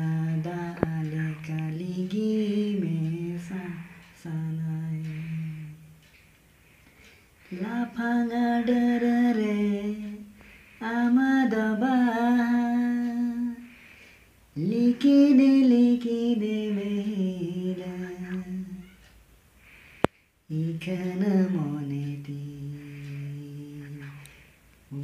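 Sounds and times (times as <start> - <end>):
man singing unaccompanied: 0.0 - 6.1, 7.4 - 13.8, 14.5 - 19.0, 20.5 - 25.0.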